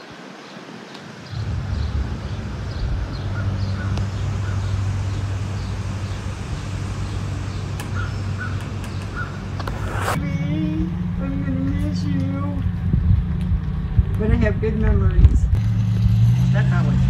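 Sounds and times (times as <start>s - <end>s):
low mechanical hum: 1.3s - 16.8s.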